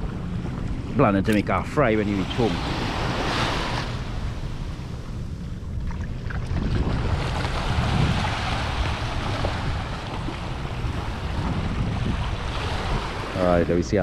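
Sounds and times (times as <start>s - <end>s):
small waves on sandy shore: 0.0s - 14.0s
wind rumbling on microphone: 0.0s - 14.0s.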